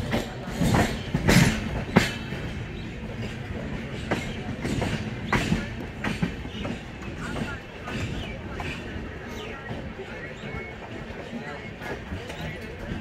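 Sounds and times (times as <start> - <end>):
rumble of wheels on rails: 0.0 - 13.0
train wheels clacking over rail joints: 0.0 - 13.0.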